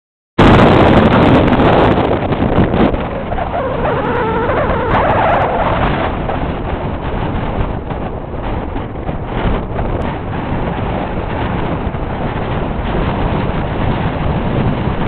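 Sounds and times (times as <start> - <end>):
strong wind buffeting microphone: 0.4 - 15.0.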